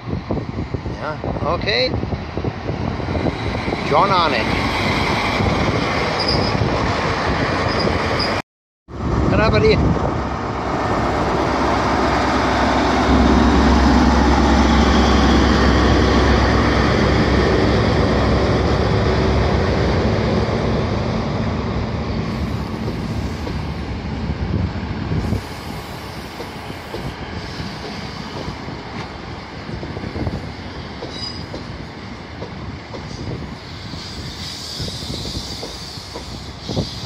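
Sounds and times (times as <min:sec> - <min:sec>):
train coaches rumbling by: 0:00.0 - 0:08.4, 0:09.0 - 0:37.0
diesel locomotive engine droning: 0:02.0 - 0:37.0.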